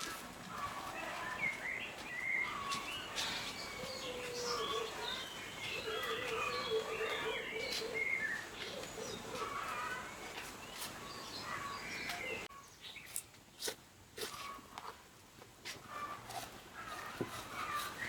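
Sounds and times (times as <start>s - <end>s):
small birds chirping: 0.0s - 15.0s, 15.9s - 18.0s.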